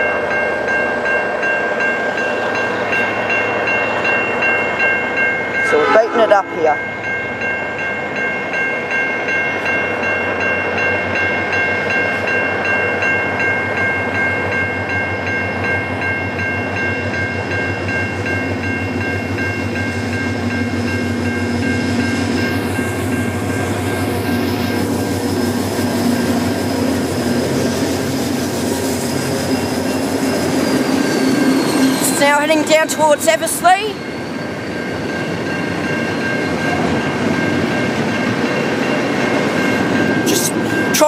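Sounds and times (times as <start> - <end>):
level crossing warning bell: 0.0 - 27.8, 29.2 - 41.0
diesel locomotive engine: 0.0 - 41.0.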